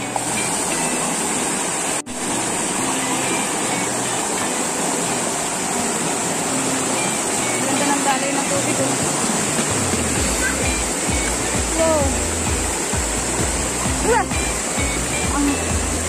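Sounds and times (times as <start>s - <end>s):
faint background music: 0.0s - 16.0s
waterfall rushing: 0.0s - 16.0s.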